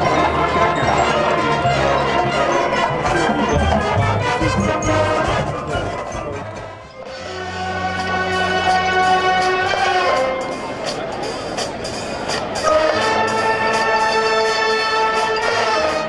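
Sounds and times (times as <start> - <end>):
instrumental music with brass: 0.0 - 16.0.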